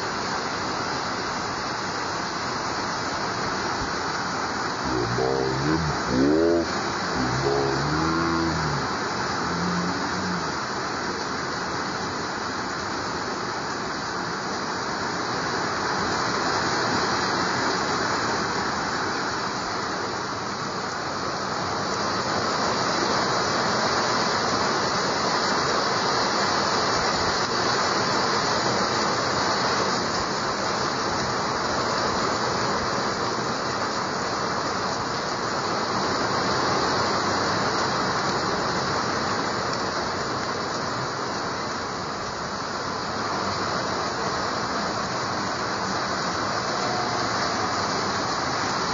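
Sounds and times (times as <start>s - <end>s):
heavy rain hiss: 0.0s - 48.9s.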